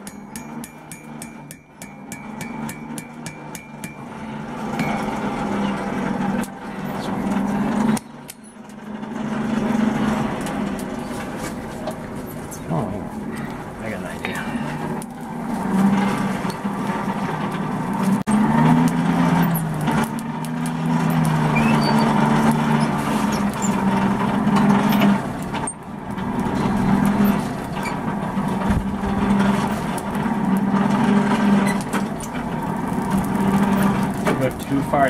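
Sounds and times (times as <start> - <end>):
fire ticks and crackles: 0.0 - 35.0
forge fire rushing: 0.1 - 35.0.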